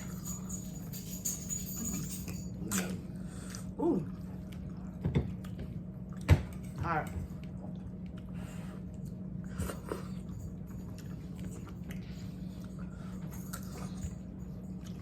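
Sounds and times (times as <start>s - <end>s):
people chewing food: 0.0s - 15.0s
steady low hum: 0.0s - 15.0s.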